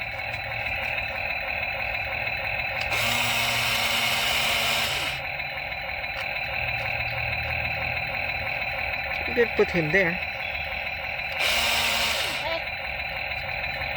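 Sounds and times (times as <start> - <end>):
louder motor whir: 0.0 - 13.9
small electric motors whirring: 0.0 - 13.9.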